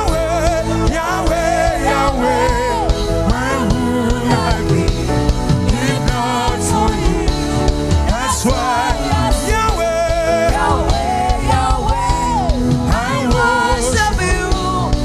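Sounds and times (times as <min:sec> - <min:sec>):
band playing a steady beat: 0:00.0 - 0:15.0
people singing gliding vocals: 0:00.0 - 0:15.0.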